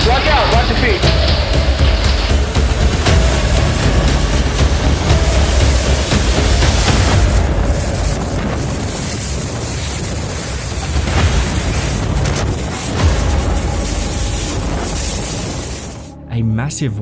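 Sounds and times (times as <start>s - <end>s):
hailstones and debris hitting: 0.0s - 16.1s
wind roaring: 0.0s - 16.4s.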